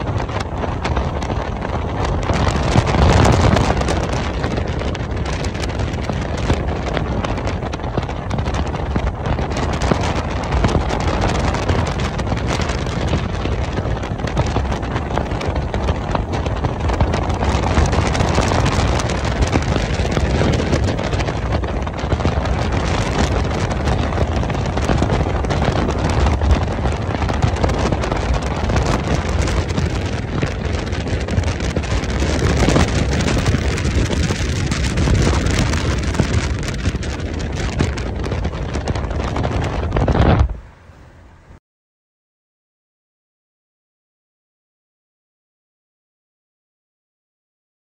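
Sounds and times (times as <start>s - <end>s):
road and engine noise: 0.0s - 41.6s
wind buffeting microphone: 0.0s - 41.6s.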